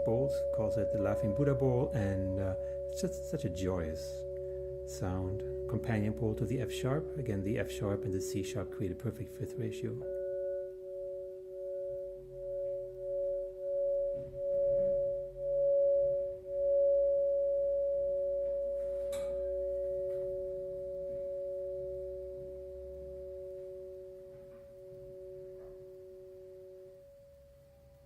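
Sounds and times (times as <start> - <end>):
crystal singing bowls ringing: 0.0 - 28.0.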